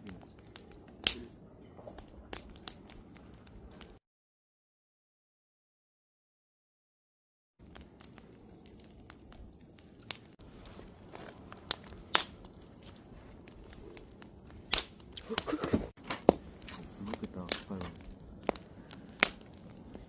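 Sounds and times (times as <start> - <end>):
campfire crackling: 0.0 - 4.0, 7.6 - 20.0.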